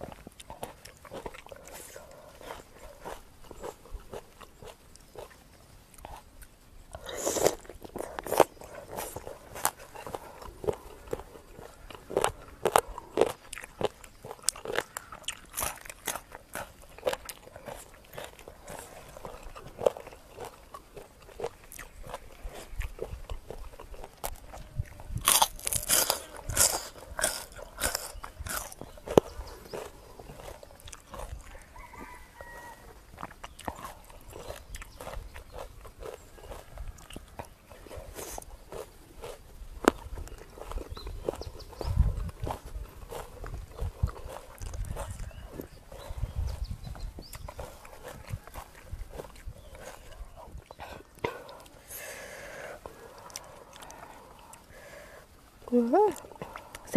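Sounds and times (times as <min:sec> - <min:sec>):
chewing crunchy chicken feet: 0:00.0 - 0:56.9.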